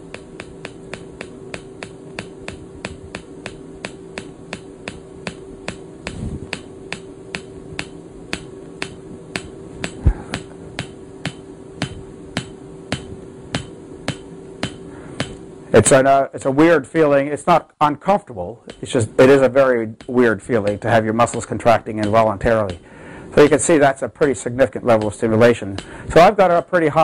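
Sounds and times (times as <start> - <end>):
electromagnetic coil ticking: 0.0 - 15.4, 16.9 - 27.0
electronic unit humming: 0.0 - 27.0.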